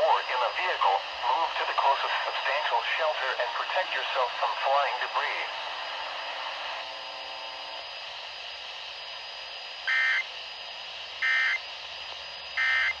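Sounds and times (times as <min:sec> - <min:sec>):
steady radio hiss: 0:00.0 - 0:13.0.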